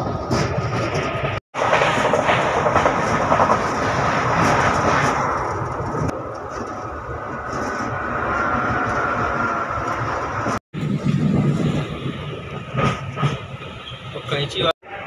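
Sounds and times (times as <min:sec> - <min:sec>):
passing train: 0:00.0 - 0:15.0
train wheels rumbling on rails: 0:00.0 - 0:15.0.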